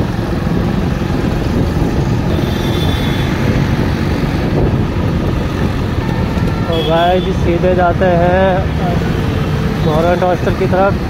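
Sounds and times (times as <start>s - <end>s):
traffic and tyres on wet road: 0.0s - 11.0s
wind rush on microphone: 0.0s - 11.0s.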